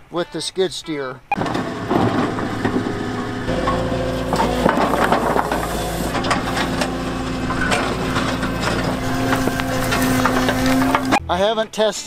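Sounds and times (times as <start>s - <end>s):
bucket scraping rocks and dirt: 1.4s - 11.2s
diesel engine running under load: 1.4s - 11.2s.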